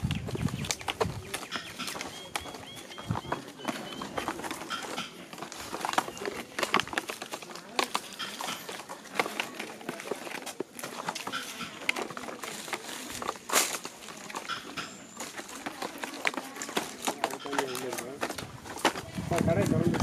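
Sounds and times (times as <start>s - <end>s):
wooden sticks clattering: 0.2s - 20.0s.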